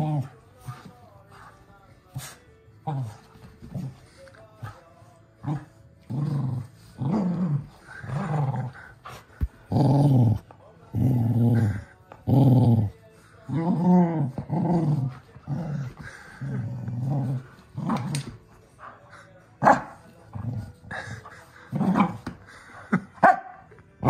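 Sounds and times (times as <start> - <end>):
dog play-growling: 0.0 - 23.1.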